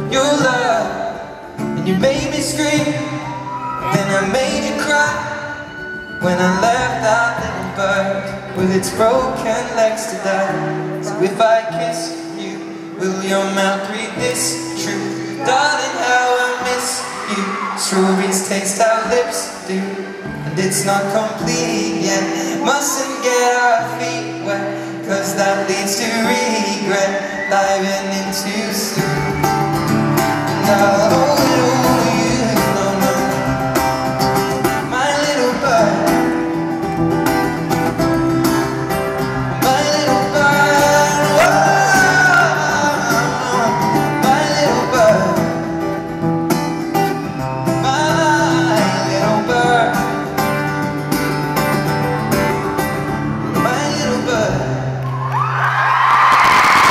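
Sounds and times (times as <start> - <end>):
man singing wordless vocals: 0.0 - 29.4, 30.4 - 36.7, 39.4 - 47.1, 47.7 - 50.4, 53.5 - 55.0
acoustic guitar strumming: 0.0 - 55.3.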